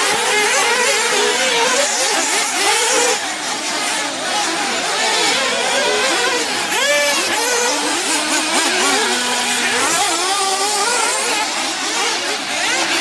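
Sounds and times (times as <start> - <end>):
rc buggy engines revving: 0.0 - 13.0.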